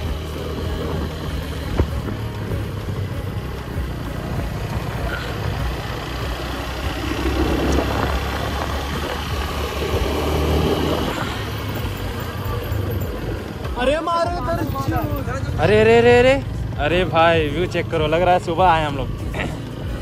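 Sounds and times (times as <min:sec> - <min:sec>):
road and wind noise: 0:00.0 - 0:20.0
vehicle engine running: 0:00.0 - 0:20.0.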